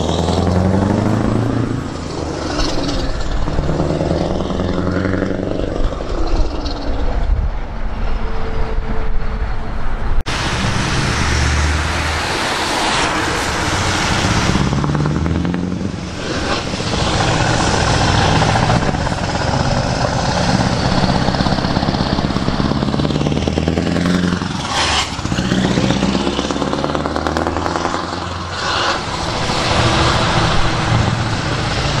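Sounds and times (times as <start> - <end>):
truck engines accelerating: 0.0 - 32.0.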